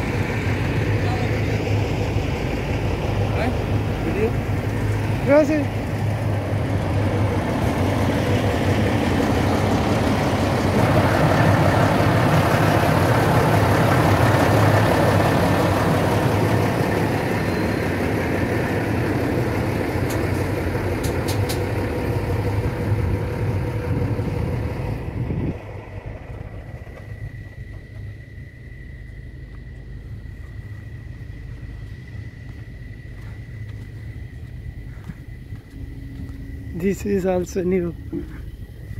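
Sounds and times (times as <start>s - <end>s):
heavy truck engine idling: 0.0s - 38.9s.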